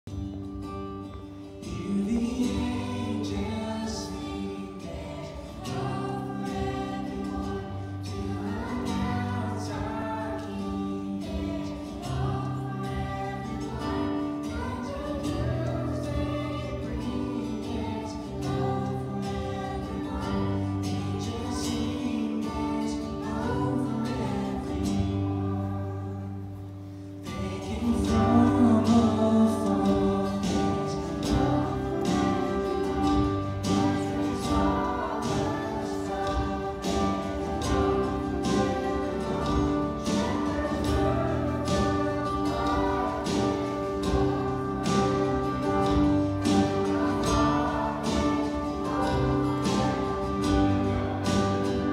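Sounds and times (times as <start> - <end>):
guitar accompaniment: 0.0 - 51.9
children's choir singing: 0.1 - 51.9.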